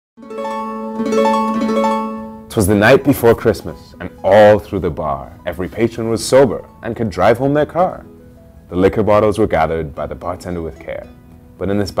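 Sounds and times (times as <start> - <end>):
plucked string notes: 0.2 - 12.0.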